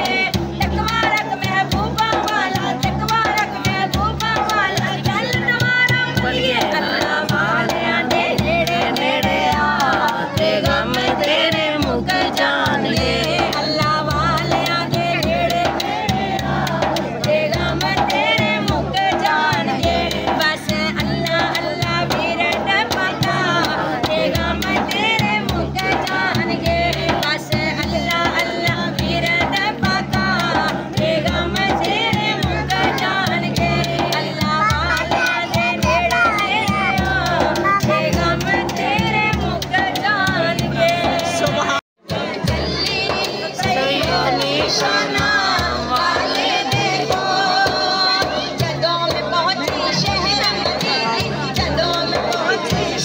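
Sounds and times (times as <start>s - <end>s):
frame drum beating: 0.0s - 53.0s
woman singing: 0.0s - 53.0s.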